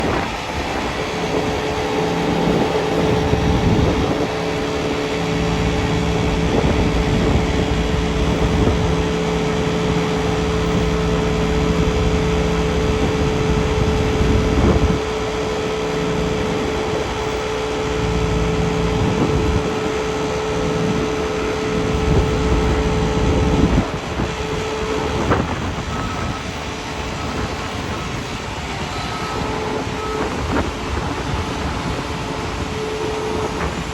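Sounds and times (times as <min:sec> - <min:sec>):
aircraft engine whine: 0:00.0 - 0:33.9
low mechanical rumble: 0:00.0 - 0:33.9.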